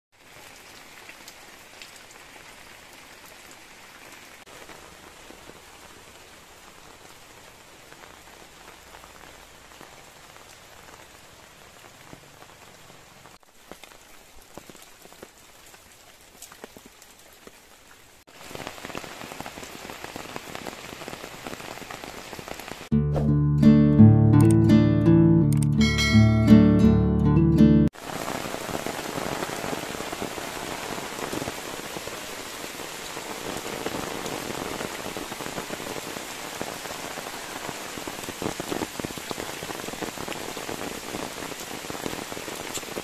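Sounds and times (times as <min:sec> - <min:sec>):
steady rain falling: 0:00.1 - 0:22.9, 0:27.9 - 0:43.0
raindrops ticking on surfaces: 0:00.2 - 0:22.9, 0:28.0 - 0:43.0.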